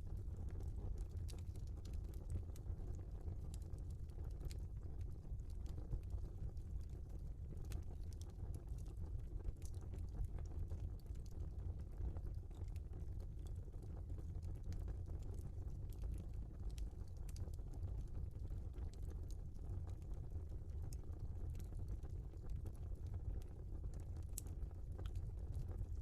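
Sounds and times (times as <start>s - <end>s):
low rumble of flames: 0.0s - 26.0s
wood fire crackling and popping: 0.0s - 26.0s.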